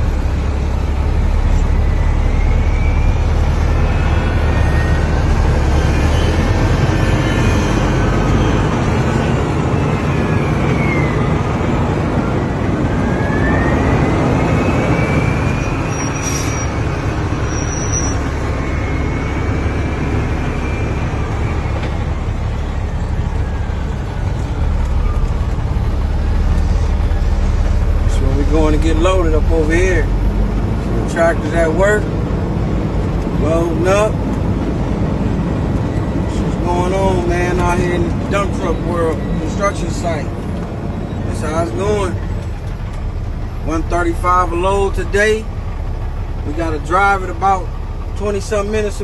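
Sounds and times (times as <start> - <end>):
diesel dump truck engine running: 0.0 - 49.0.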